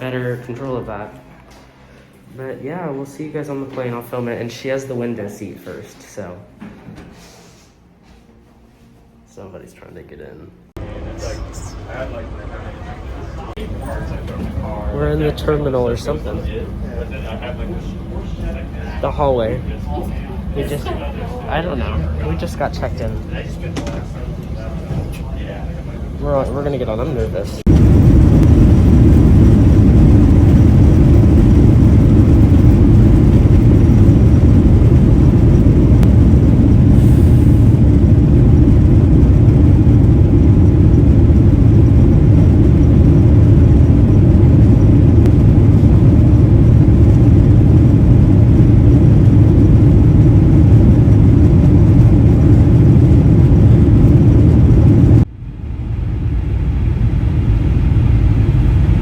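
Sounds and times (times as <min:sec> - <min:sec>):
jet airliner cabin rumble: 0:10.7 - 0:59.0.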